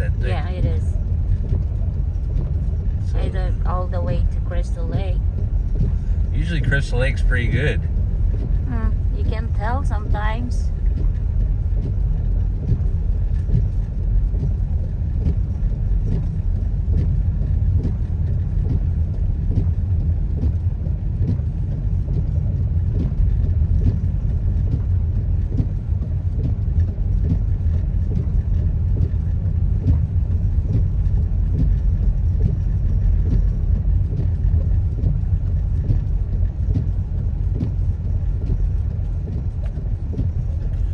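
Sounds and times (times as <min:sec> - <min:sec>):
tyres and engine rumble: 0:00.0 - 0:40.9.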